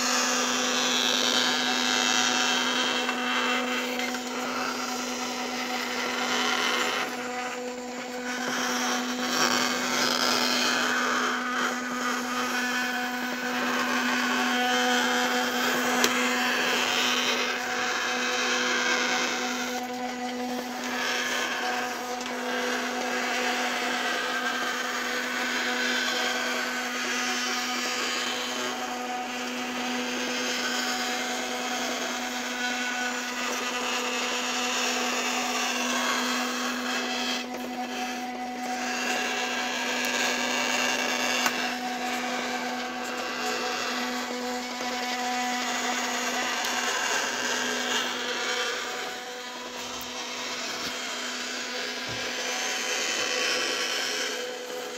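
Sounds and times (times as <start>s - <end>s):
small electric motor humming: 0.0s - 54.9s.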